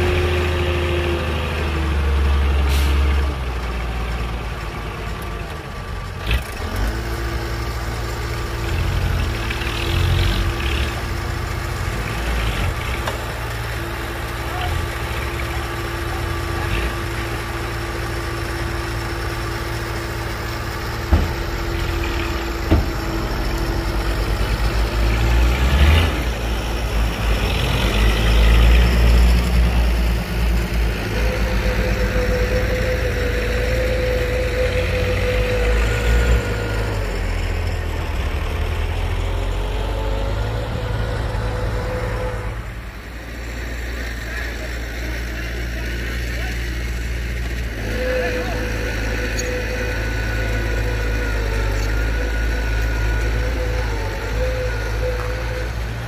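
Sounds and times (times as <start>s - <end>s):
diesel engines running: 0.0s - 56.0s
truck driving off: 0.0s - 56.0s.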